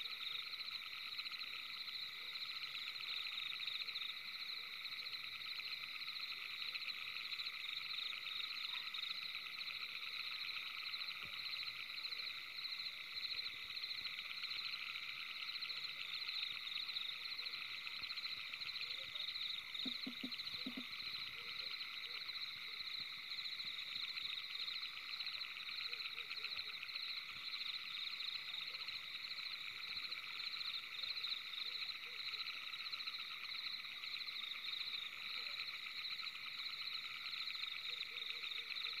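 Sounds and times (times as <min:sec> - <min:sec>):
night chorus of trilling animals: 0:00.0 - 0:39.0.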